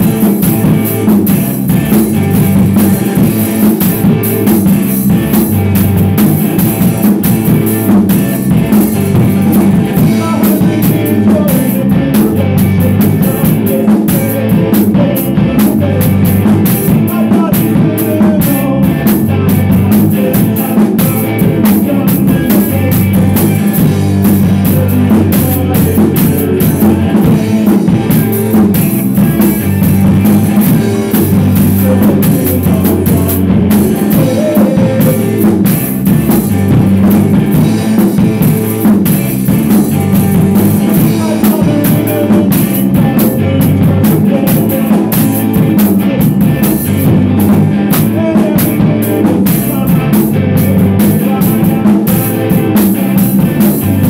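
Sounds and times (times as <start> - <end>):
drum kit steady beat: 0.0 - 54.0
electric guitar: 0.0 - 54.0.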